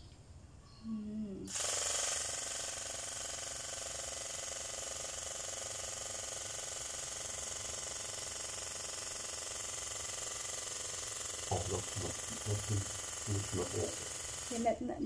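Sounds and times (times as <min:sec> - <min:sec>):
coffee maker buzzing: 0:01.5 - 0:14.8.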